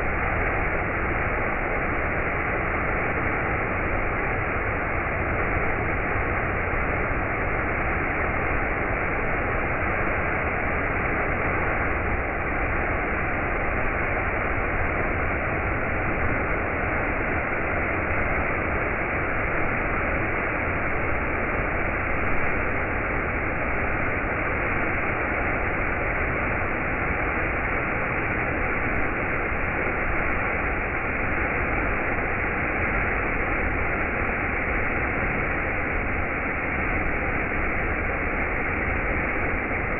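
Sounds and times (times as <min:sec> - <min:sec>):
faint steady tone: 0:00.0 - 0:39.9.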